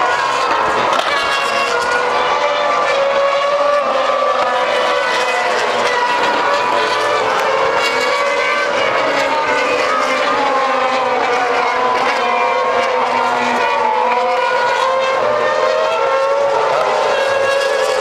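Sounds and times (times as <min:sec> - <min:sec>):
racing car engines at high revs: 0:00.0 - 0:18.0.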